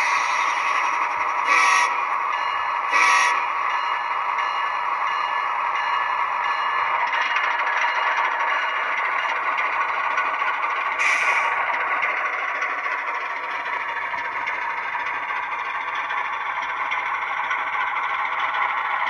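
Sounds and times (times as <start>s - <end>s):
model locomotive diesel sound: 0.0s - 19.0s.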